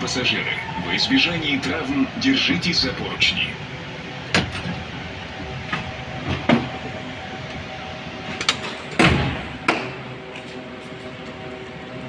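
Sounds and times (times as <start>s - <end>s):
metro car electrical hum: 0.0s - 12.0s.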